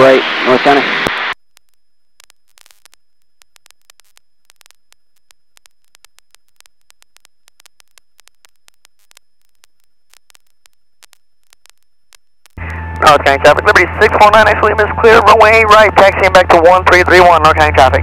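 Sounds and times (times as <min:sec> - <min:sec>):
faint static crackle: 0:00.0 - 0:18.0.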